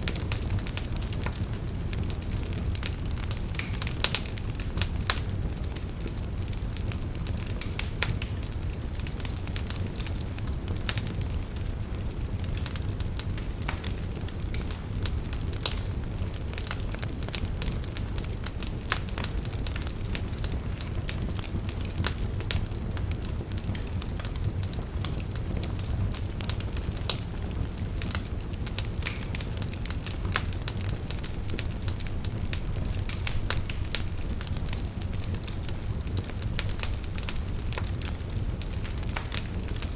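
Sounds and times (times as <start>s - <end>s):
bonfire flames rumbling: 0.0s - 39.9s
burning wood crackling and popping: 0.0s - 39.9s.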